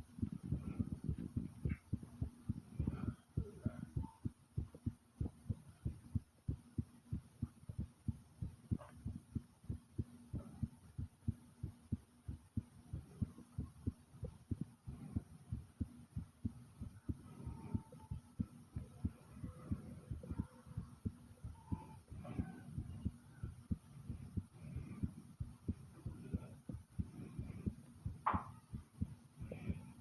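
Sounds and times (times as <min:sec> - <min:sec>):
heartbeat thumps: 0:00.0 - 0:30.0.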